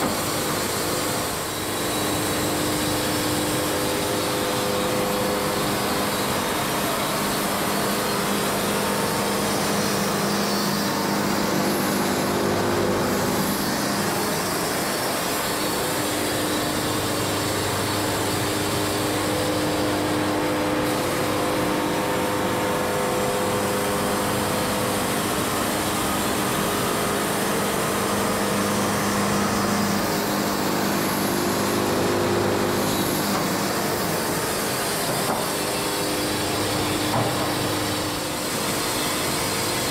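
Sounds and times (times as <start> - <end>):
band saw cutting log: 0.0 - 39.9
sawmill engine running: 0.0 - 39.9.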